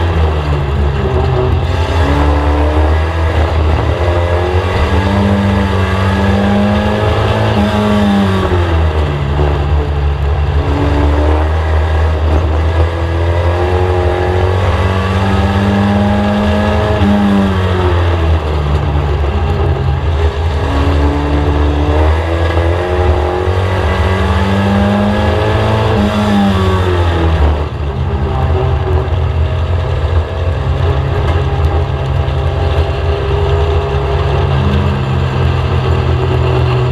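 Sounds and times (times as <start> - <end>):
race car engine revving: 0.0 - 36.9.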